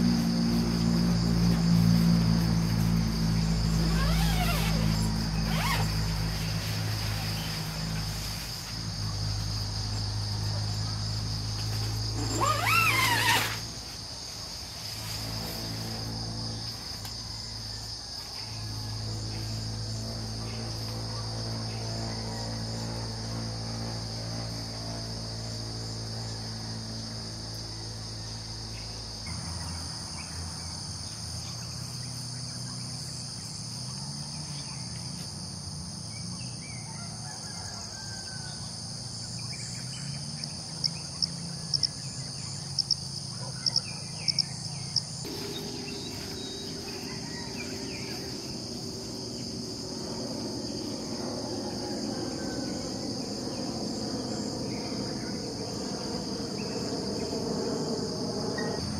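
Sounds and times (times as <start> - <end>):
crickets and insects chirring: 0.0 - 58.9.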